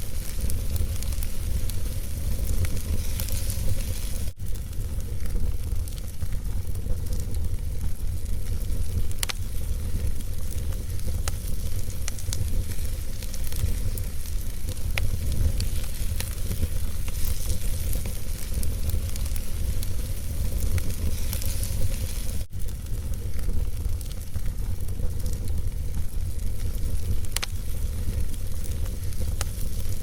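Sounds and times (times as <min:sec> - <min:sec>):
fire crackles and pops: 0:00.0 - 0:30.0
fire rumbling and hissing: 0:00.0 - 0:30.0.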